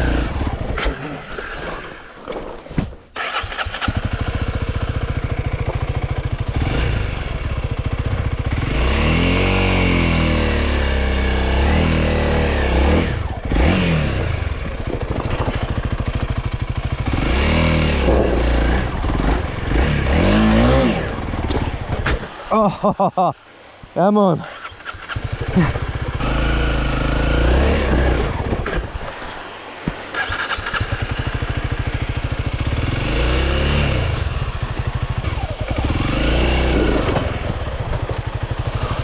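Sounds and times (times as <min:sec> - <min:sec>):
dirt bike engine revving: 0:00.0 - 0:02.0, 0:03.2 - 0:22.3, 0:24.4 - 0:39.0.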